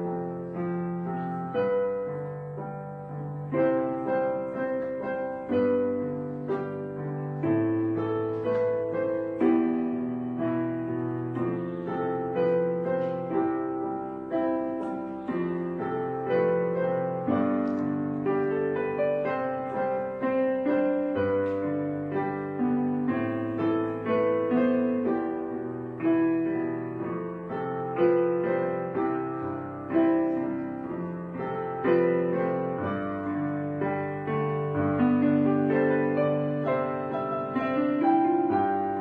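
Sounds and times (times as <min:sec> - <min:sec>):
slow gentle piano music: 0:00.0 - 0:39.0.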